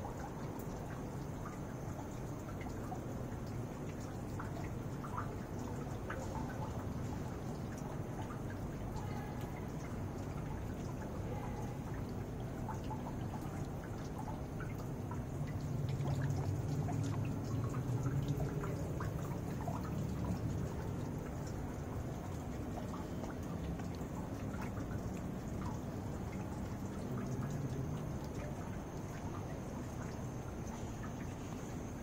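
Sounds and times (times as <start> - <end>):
small splashes: 0.0 - 32.0
water trickling into a pond: 0.0 - 32.0.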